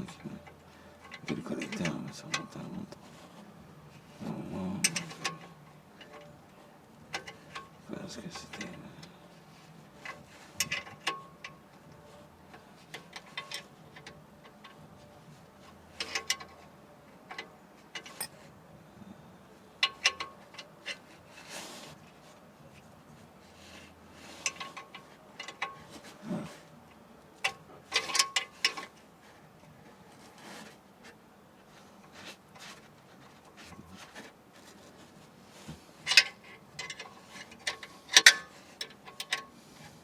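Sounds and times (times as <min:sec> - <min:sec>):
hand tools and metal parts clinking: 0:00.0 - 0:19.0, 0:19.7 - 0:40.0.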